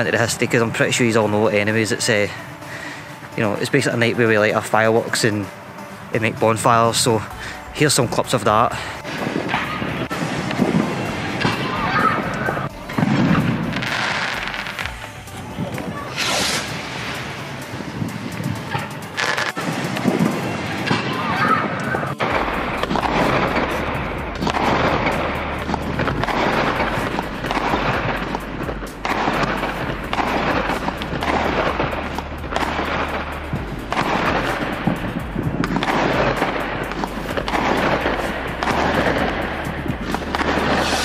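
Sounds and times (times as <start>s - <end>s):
pulsing background music: 0.0s - 41.0s
fireworks bangs and crackle: 6.2s - 41.0s.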